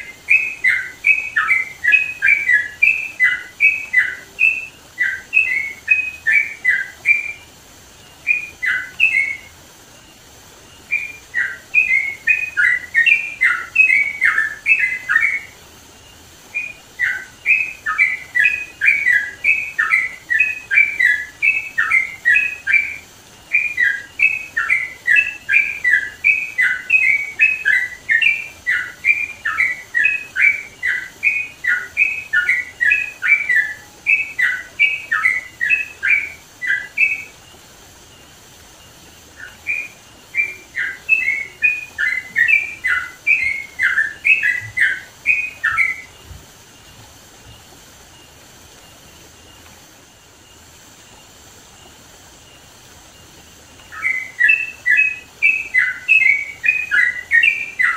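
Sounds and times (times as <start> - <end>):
bird singing bubbly chirps: 0.0 - 57.9
faint hiss: 0.0 - 57.9.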